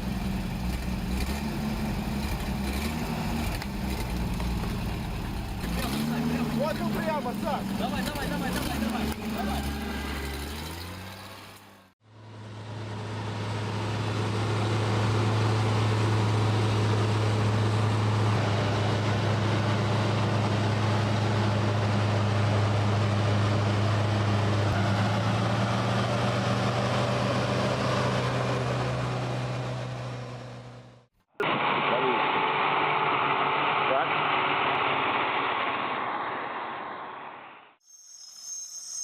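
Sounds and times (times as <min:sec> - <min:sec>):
engine running: 0:00.0 - 0:37.8
heavy vehicle engine drone: 0:00.0 - 0:37.8.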